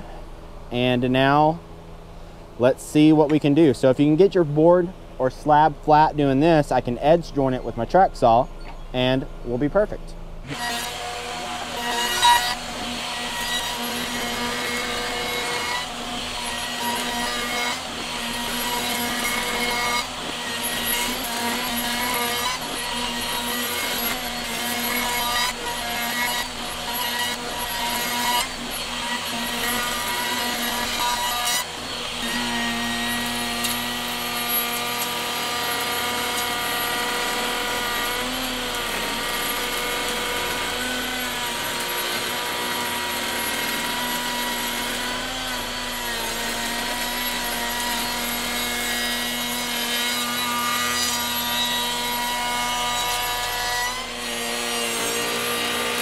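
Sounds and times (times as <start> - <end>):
router cutting wood: 9.7 - 56.0.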